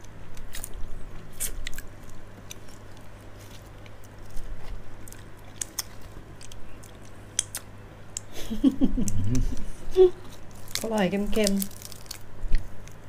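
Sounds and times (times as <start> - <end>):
chewing crunchy insects: 0.0 - 8.3, 9.4 - 13.0
low steady hum: 0.0 - 13.0.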